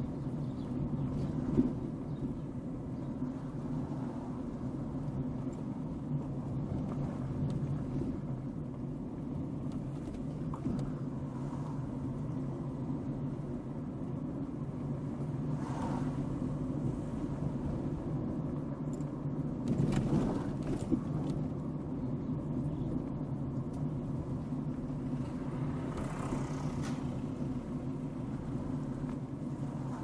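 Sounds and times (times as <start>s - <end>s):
car engine and road drone: 0.0s - 30.0s.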